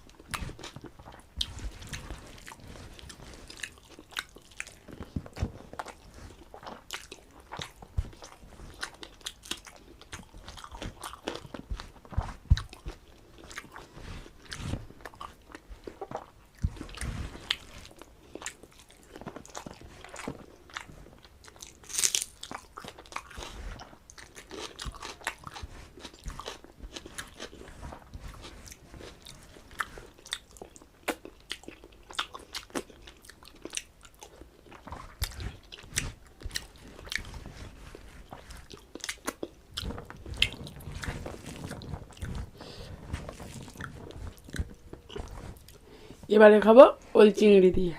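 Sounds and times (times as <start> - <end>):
person chewing and crunching food: 0.0 - 46.3.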